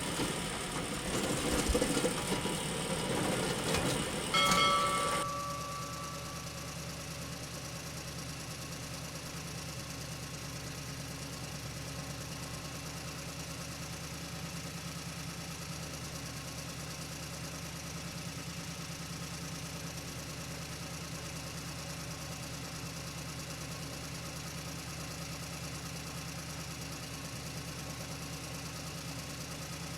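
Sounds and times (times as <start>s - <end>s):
engine idling: 0.0s - 29.9s.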